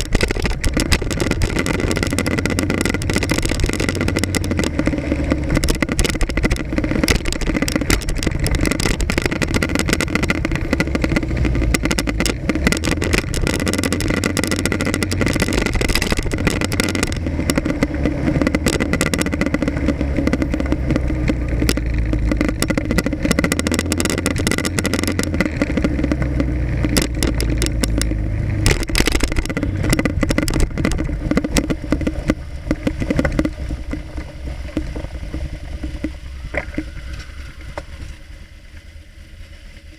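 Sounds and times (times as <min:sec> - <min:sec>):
wind noise: 0:00.0 - 0:39.0
motorcycle engine rumble: 0:00.0 - 0:39.9
road clatter: 0:00.0 - 0:39.9.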